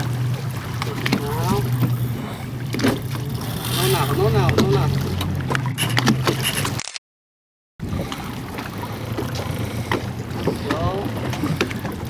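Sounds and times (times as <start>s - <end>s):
boat engine humming: 0.0s - 6.8s, 7.8s - 12.0s
water noise: 0.0s - 7.0s, 7.8s - 12.0s
wind: 0.0s - 7.0s, 7.8s - 12.0s.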